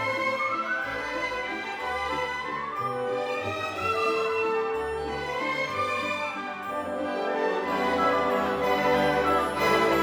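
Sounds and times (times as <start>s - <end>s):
orchestral strings and brass: 0.0s - 10.0s.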